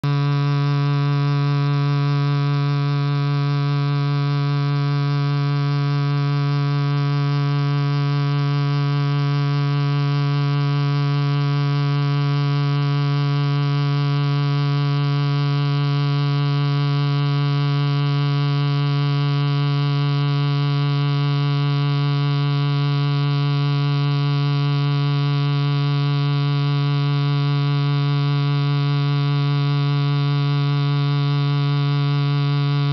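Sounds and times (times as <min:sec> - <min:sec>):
loudspeaker buzzy low tone: 0:00.0 - 0:32.9.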